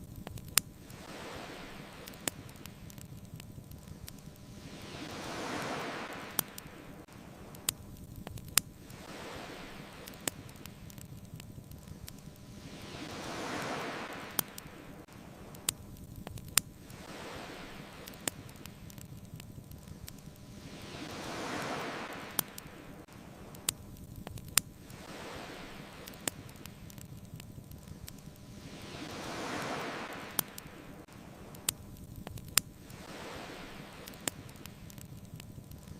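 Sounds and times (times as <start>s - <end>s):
bonfire crackling pops: 0.0s - 35.9s
ocean waves washing in: 0.4s - 35.9s.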